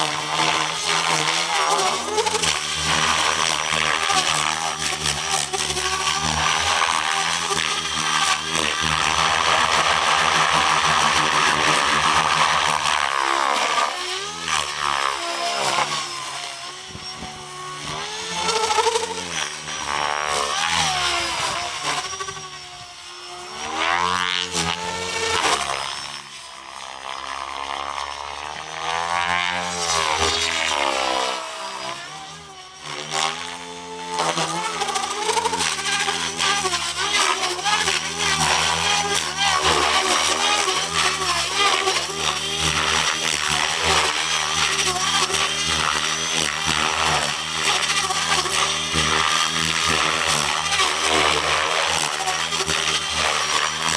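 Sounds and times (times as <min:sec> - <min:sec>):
rc helicopter motor whine: 0:00.0 - 0:53.9.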